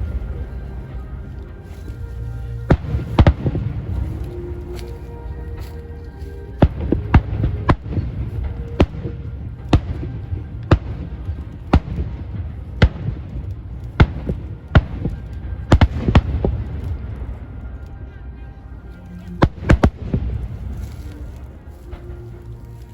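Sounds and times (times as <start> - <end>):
low rumble: 0.0 - 22.9.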